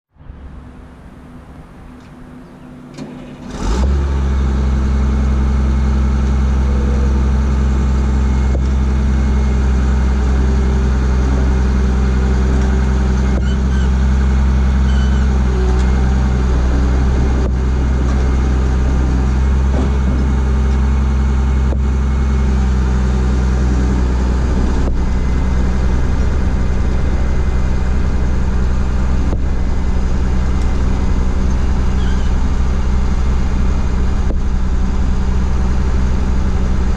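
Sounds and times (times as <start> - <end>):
diesel engine droning: 0.1 - 36.9.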